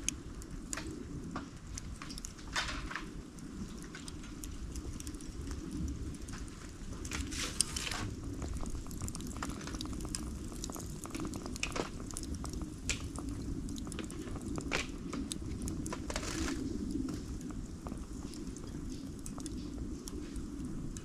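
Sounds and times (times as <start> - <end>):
bonfire crackling: 0.0 - 21.0
fire hissing: 0.0 - 21.0.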